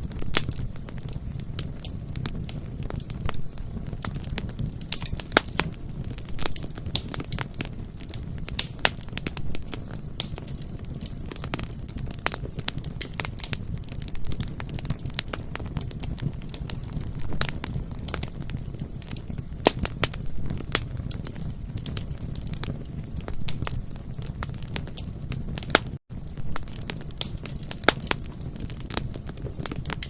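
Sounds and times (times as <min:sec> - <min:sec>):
low rumble of flames: 0:00.0 - 0:30.0
wood crackling and popping: 0:00.0 - 0:30.0.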